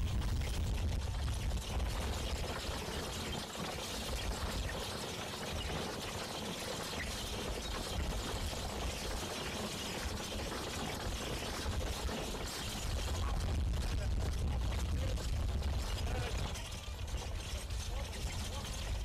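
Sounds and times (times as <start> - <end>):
horse-drawn drill rushing noise: 0.0 - 19.0.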